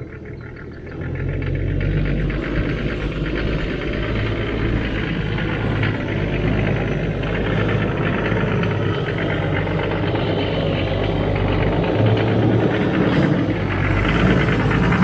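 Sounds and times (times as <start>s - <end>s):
diesel engine running low: 0.0s - 15.0s.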